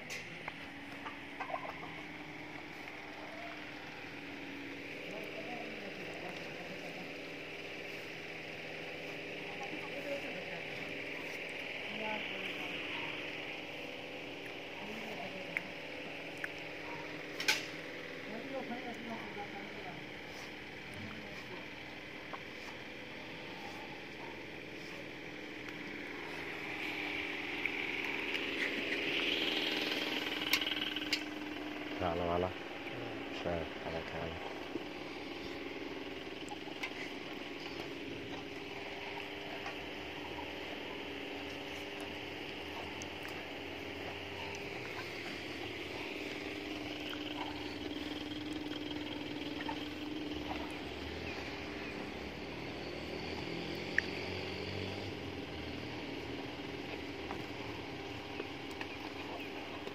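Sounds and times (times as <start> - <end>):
engine running steadily: 0.0 - 59.9
faint noisy background: 0.0 - 59.9
steady mechanical hum: 0.0 - 59.9.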